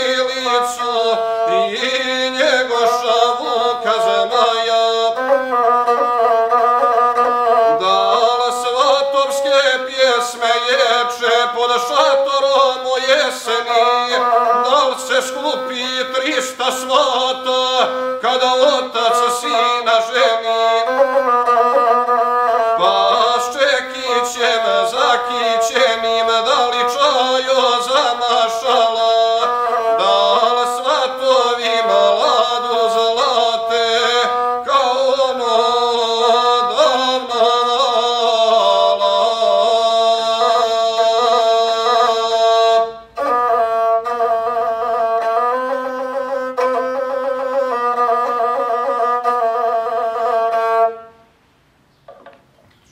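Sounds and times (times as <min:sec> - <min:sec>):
man singing: 0:00.0 - 0:45.9
bowed folk fiddle melody: 0:00.0 - 0:51.2.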